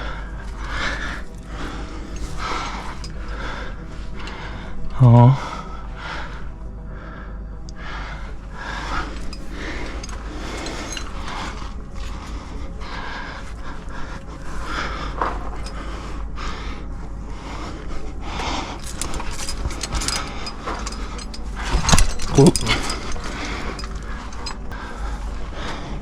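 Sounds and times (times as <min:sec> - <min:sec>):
person breathing hard and panting: 0:00.0 - 0:26.0.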